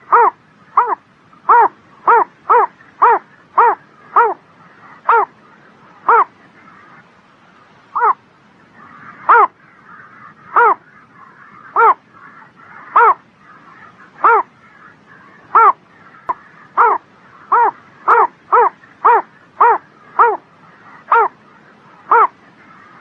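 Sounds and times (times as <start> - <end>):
animal calling: 0.0 - 5.4, 6.0 - 7.0, 7.9 - 8.2, 8.8 - 23.0.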